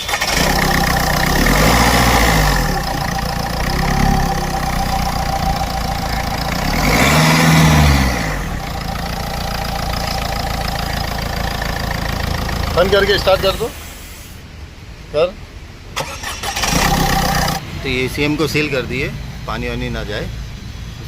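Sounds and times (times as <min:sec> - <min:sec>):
diesel engine idling and revving: 0:00.0 - 0:14.4, 0:15.9 - 0:21.0.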